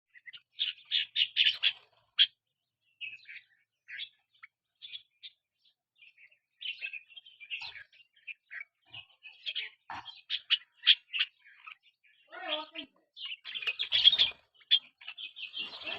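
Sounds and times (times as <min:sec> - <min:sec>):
bird chirping: 0:00.1 - 0:15.9.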